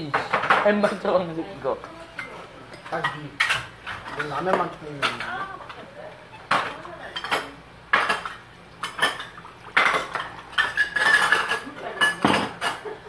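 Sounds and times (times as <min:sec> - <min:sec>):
utensils clinking against bowls: 0:01.8 - 0:13.0.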